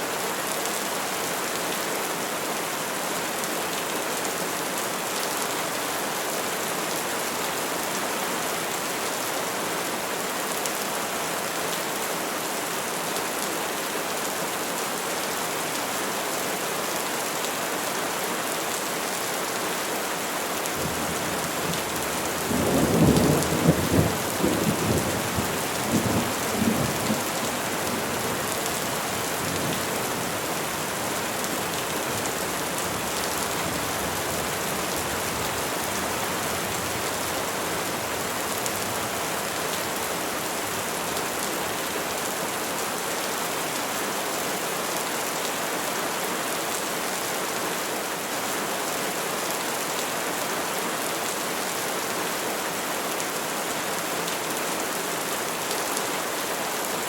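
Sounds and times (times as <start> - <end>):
rain falling on trees: 0.0 - 57.0.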